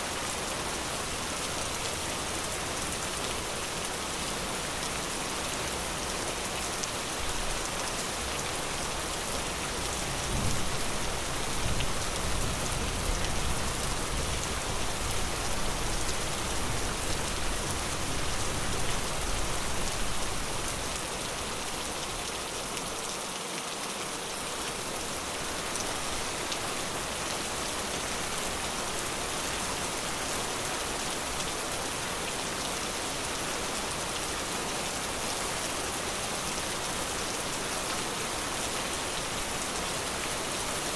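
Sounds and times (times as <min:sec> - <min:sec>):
rain pattering in forest: 0:00.0 - 0:40.9.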